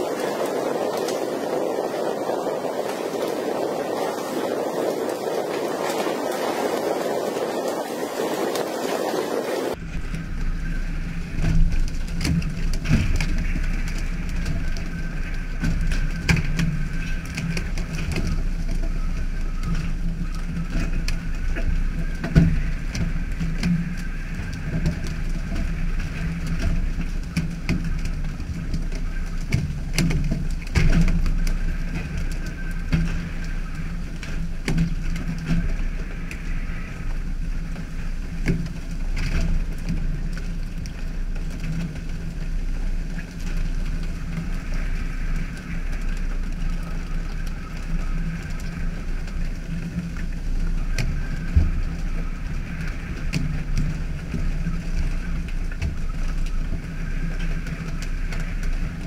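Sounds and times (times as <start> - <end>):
boat engine droning: 0.0 - 59.0
wind and rough sea: 0.0 - 59.0.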